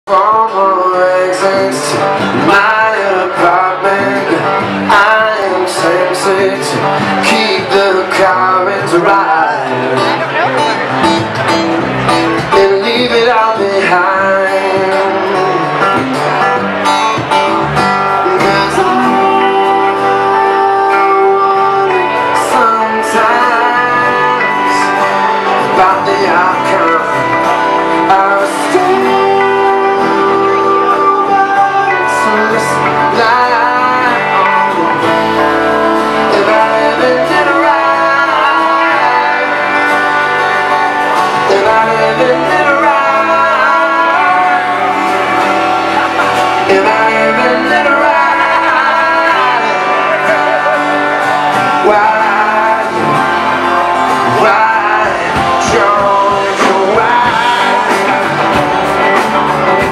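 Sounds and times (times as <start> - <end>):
man singing: 0.0 - 59.9
live rock band playing: 0.1 - 59.9
strummed acoustic guitar: 0.1 - 59.9.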